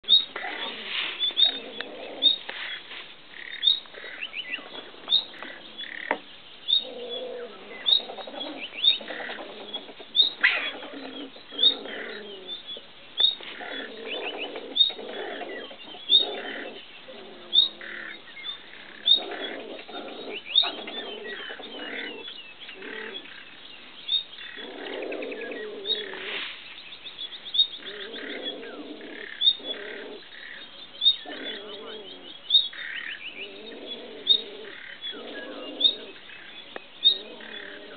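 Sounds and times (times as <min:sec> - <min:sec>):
low chattering animal calls: 0:00.0 - 0:37.9.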